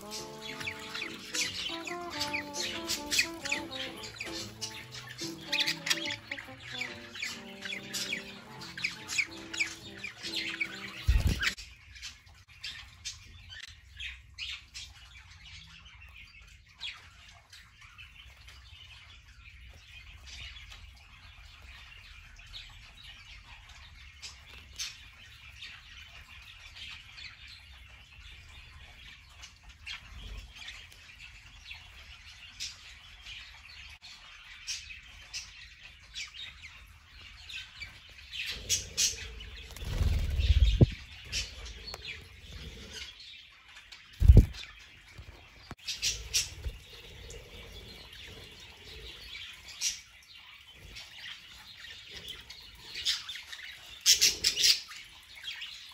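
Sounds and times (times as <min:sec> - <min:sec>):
budgerigars chirping: 0:00.0 - 0:20.5, 0:29.2 - 0:55.9.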